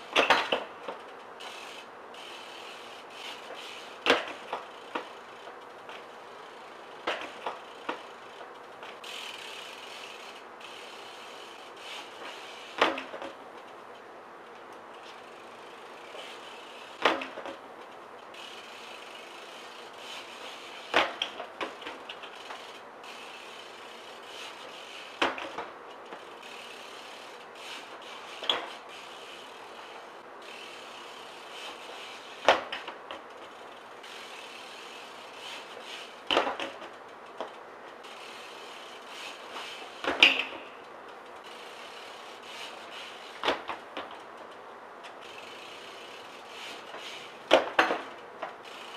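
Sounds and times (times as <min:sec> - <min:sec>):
bike clattering on concrete: 0:00.0 - 0:48.9.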